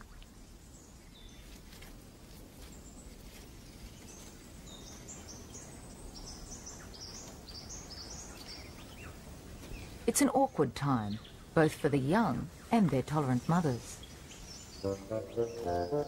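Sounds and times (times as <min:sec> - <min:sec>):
faint background hiss: 0:00.0 - 0:16.0
small birds chirping: 0:00.0 - 0:16.0.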